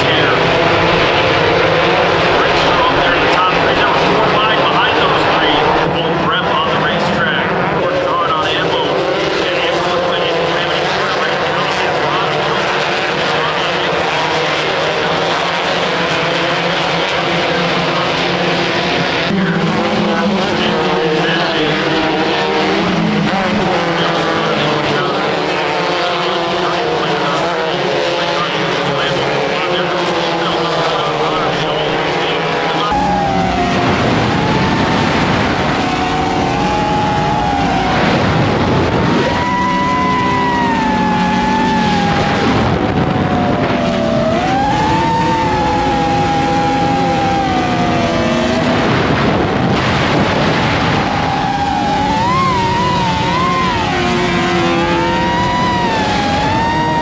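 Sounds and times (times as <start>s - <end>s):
race car engine at high revs: 0.0s - 57.0s
road and wind noise: 0.0s - 57.0s.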